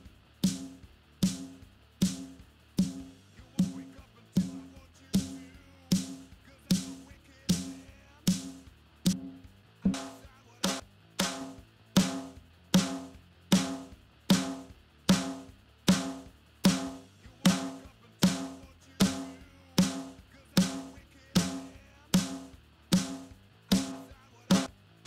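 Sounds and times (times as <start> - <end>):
snare drum hits: 0.4 - 4.6, 5.2 - 24.8.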